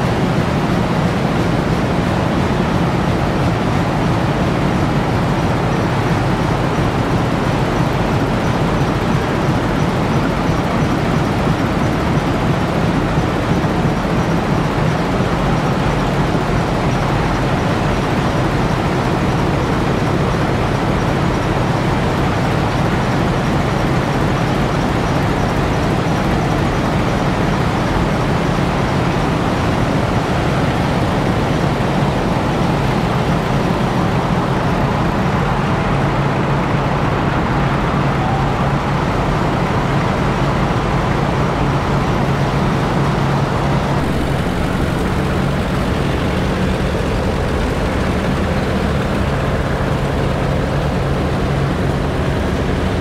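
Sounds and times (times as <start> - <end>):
vehicle noise rush and hum: 0.0 - 53.0.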